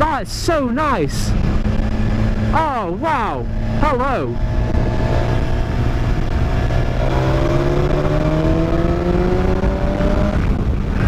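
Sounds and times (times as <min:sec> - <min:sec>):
motorcycle engine accelerating: 0:01.3 - 0:11.0.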